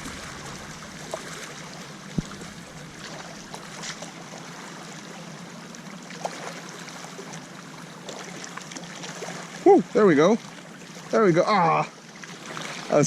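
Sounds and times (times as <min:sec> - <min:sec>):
water lapping at shore: 0:00.0 - 0:13.0.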